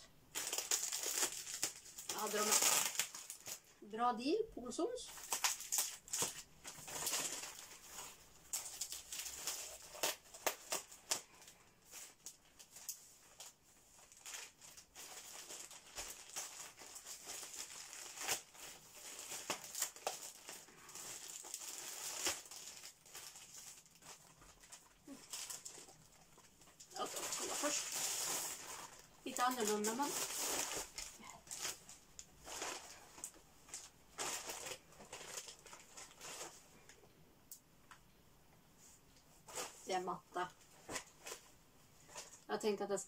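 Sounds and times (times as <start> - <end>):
plastic bag crinkling: 0.3 - 3.8, 5.1 - 36.9.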